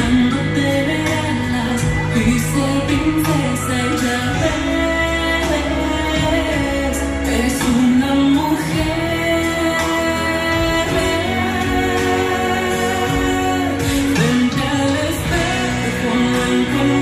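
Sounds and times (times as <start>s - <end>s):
waltz song with singing: 0.0s - 17.0s.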